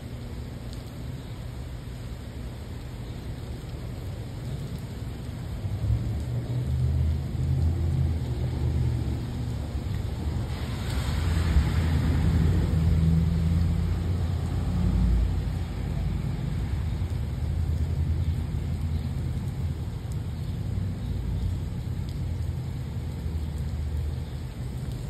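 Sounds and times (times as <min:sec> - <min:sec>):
low engine-like rumble: 0:00.0 - 0:25.0
rain: 0:00.0 - 0:25.0.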